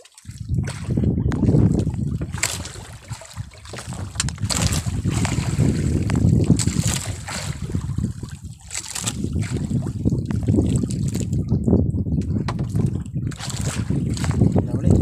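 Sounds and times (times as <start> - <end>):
water slapping boat hull: 0.0 - 15.0
wind buffeting microphone: 0.2 - 15.0.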